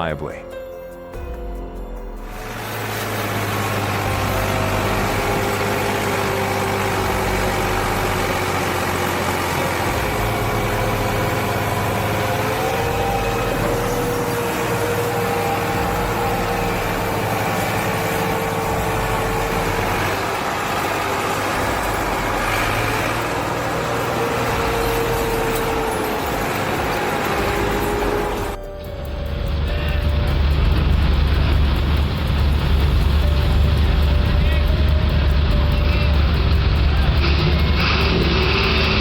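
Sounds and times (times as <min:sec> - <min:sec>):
tractor diesel engine under load: 0:02.2 - 0:39.0.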